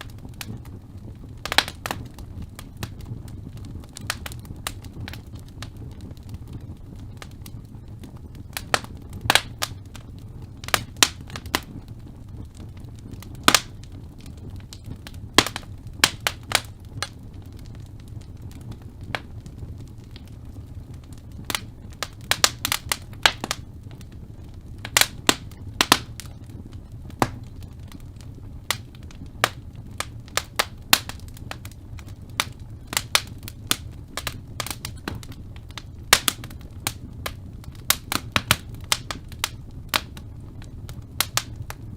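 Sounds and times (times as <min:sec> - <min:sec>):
low rumble of flames: 0:00.0 - 0:41.9
wood fire pops and snaps: 0:00.0 - 0:41.9.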